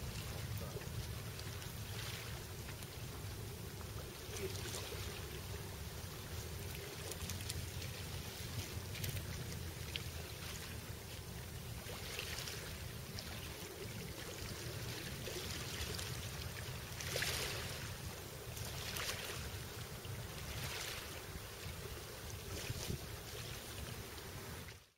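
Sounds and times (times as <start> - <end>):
wind rumble on microphone: 0.0 - 24.8.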